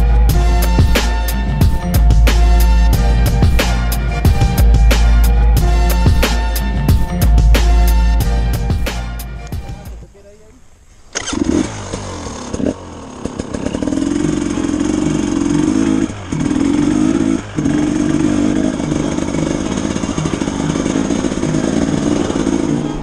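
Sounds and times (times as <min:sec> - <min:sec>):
dirt bike engine revving: 0:00.0 - 0:09.2, 0:11.1 - 0:23.0.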